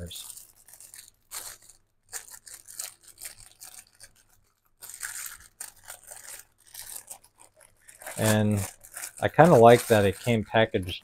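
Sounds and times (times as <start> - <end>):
paper and packaging rustling: 0.0 - 11.0.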